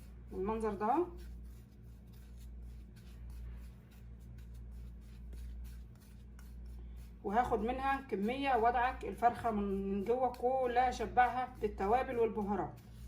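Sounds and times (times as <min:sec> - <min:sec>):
spices stirred in a bowl: 0:00.0 - 0:13.0.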